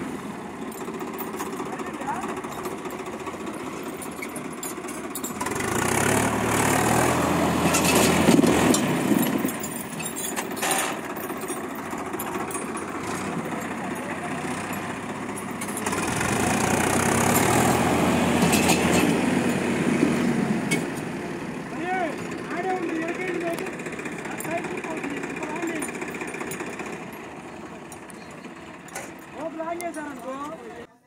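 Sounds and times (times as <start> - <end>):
diesel tractor engines running: 0.0 - 31.0.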